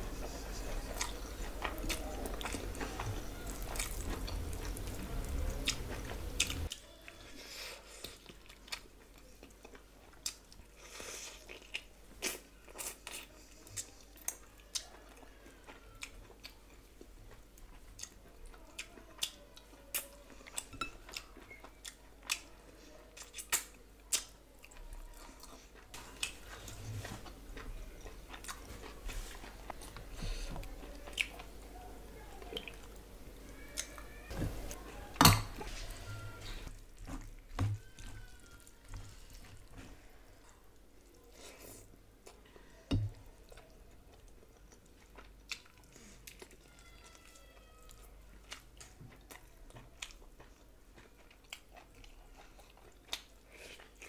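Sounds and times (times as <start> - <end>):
chewing and mouth noises: 0.0 - 7.2, 7.8 - 31.6, 32.4 - 54.0.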